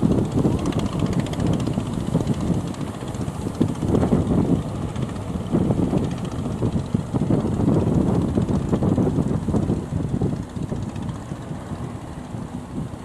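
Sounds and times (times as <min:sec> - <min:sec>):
boat motor rumbling: 0:00.0 - 0:13.0
wind buffeting microphone: 0:00.0 - 0:13.0.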